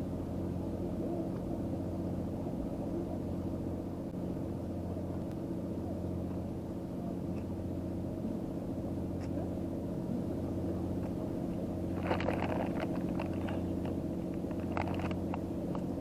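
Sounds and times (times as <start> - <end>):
motor idling hum: 0.0 - 16.0.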